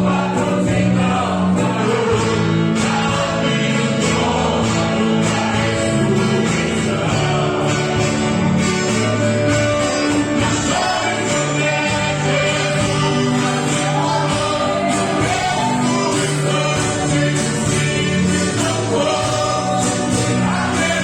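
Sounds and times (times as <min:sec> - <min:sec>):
instrumental accompaniment: 0:00.0 - 0:21.0
two men singing a gospel hymn: 0:00.0 - 0:21.0.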